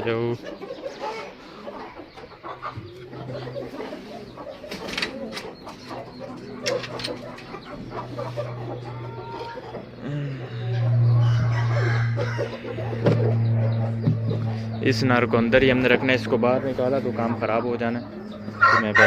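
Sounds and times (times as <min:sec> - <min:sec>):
chickens clucking: 0:00.0 - 0:19.0
steady low hum: 0:01.4 - 0:19.0.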